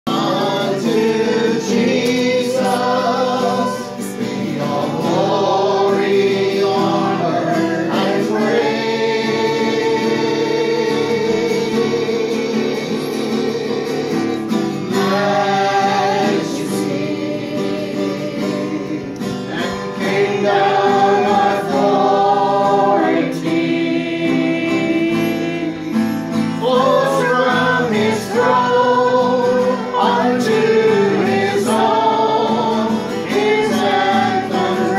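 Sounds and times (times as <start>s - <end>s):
group singing a slow song: 0.1s - 34.9s
strummed acoustic guitar: 0.1s - 34.9s.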